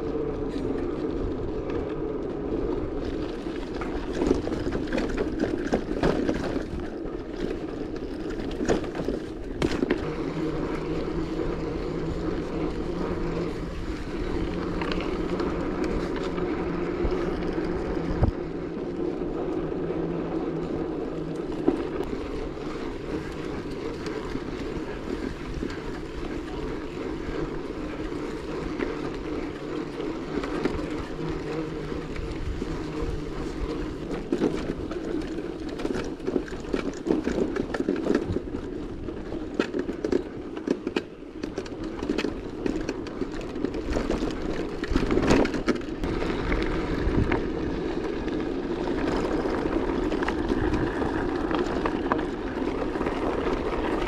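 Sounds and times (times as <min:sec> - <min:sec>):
vehicle engine humming: 0:00.0 - 0:54.0.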